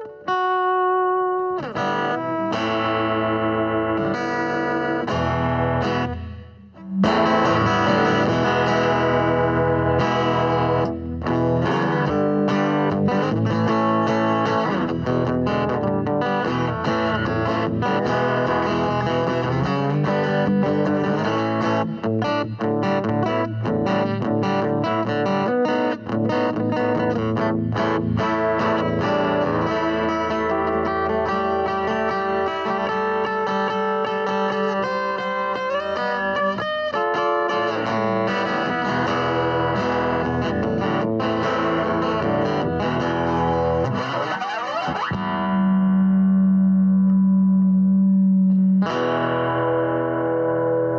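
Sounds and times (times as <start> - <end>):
distorted electric guitar: 0.0 - 50.9.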